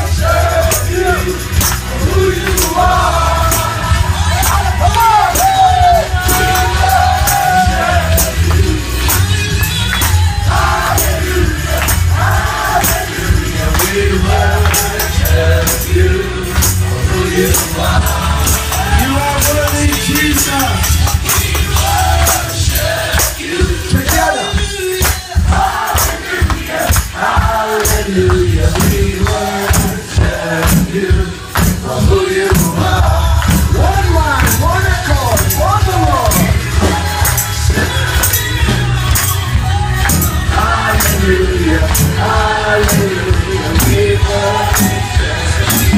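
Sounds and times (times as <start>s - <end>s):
gospel music with singing: 0.0s - 45.9s
heavy steady bass: 0.0s - 45.9s
tambourine hits: 0.0s - 45.9s.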